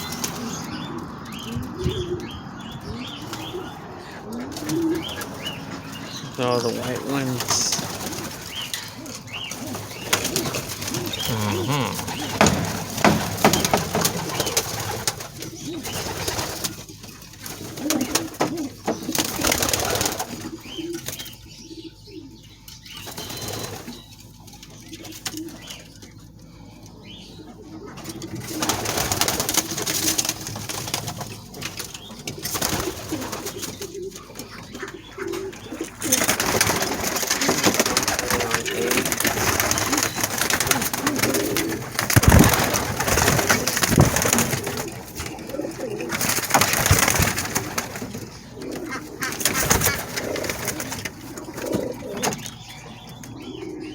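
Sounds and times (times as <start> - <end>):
pigeons cooing: 0.0 - 53.9.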